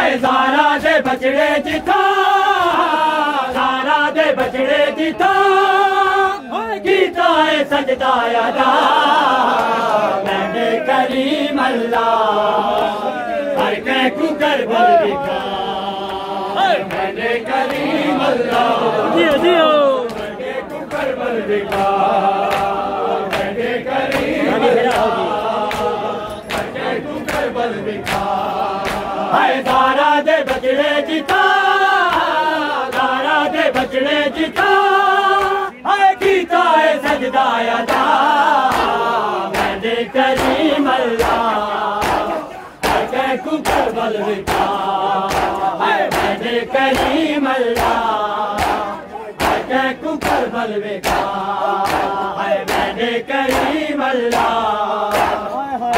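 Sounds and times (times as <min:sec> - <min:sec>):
lead reciter chanting: 0:00.0 - 0:55.9
men chanting in unison: 0:00.0 - 0:55.9.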